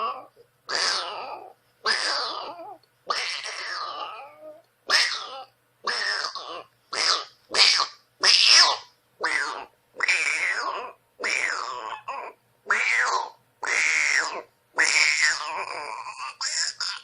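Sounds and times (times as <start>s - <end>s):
cat yowling aggressively: 0.0s - 17.0s.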